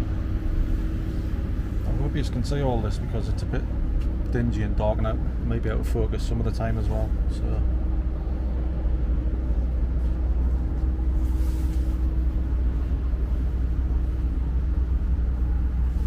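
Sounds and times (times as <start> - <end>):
vending machines humming: 0.0 - 16.0.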